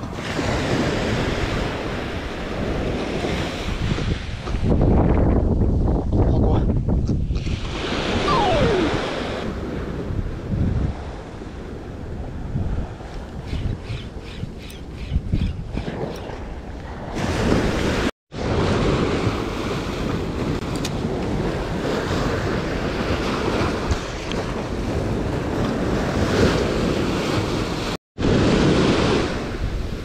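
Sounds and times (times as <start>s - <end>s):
sea surf washing ashore: 0.0s - 4.4s, 7.4s - 13.4s, 16.3s - 30.0s
wind rumbling on microphone: 0.0s - 30.0s.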